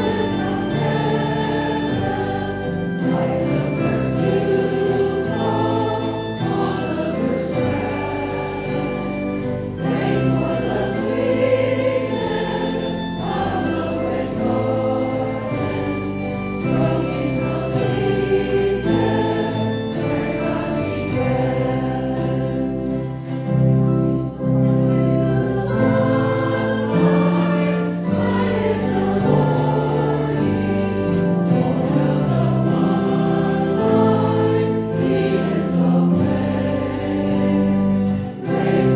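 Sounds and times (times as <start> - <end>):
many voices singing a hymn: 0.0 - 38.9.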